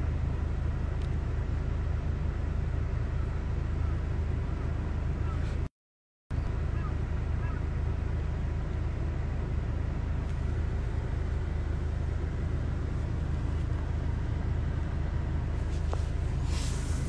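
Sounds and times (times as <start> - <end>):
car cabin rumble: 0.0 - 5.7, 6.3 - 17.0.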